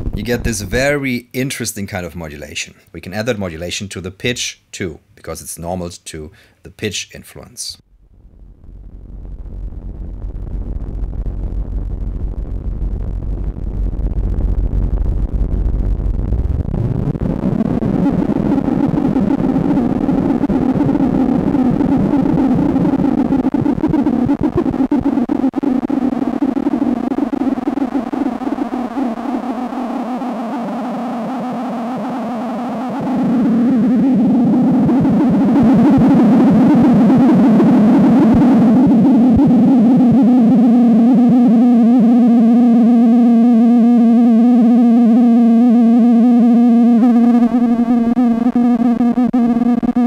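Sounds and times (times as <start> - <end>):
synthesizer low drone: 7.9 - 50.0.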